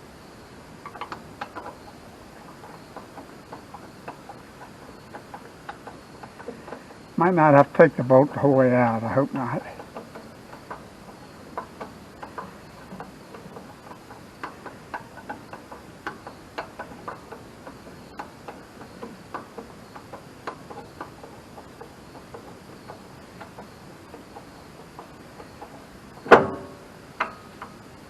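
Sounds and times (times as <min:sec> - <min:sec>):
hand tools clicking on metal: 0:00.8 - 0:27.8.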